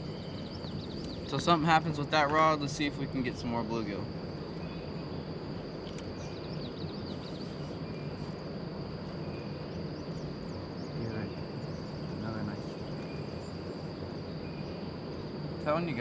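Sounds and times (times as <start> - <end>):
insects trilling: 0.0 - 16.0
low outdoor rumble: 0.0 - 16.0.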